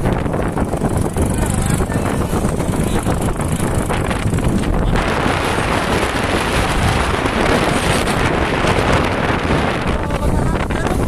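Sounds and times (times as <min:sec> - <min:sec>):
vehicle running noise: 0:00.0 - 0:11.0
wind buffeting microphone: 0:00.0 - 0:11.0.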